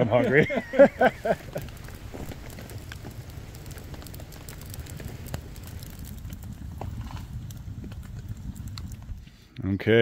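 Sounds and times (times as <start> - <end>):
campfire crackling: 0.0 - 9.5.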